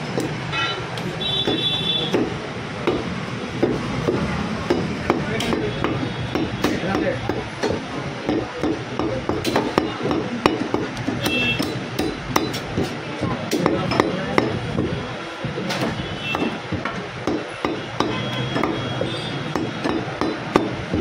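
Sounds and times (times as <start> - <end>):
cleaver chopping meat and bone: 1.4 - 21.0.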